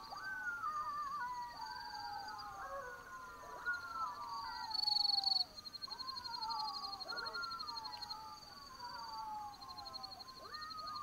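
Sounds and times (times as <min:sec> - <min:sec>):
jackals howling: 0:00.0 - 0:11.0.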